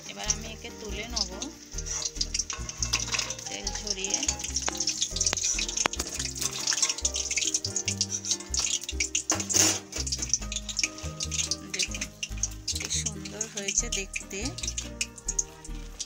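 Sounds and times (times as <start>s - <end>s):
background music with bass line: 0.0s - 16.0s
oil sizzling in a wok: 0.0s - 16.0s.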